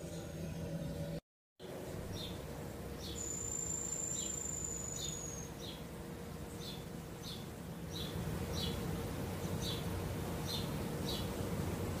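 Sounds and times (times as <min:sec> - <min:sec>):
small birds chirping: 0:02.0 - 0:11.6.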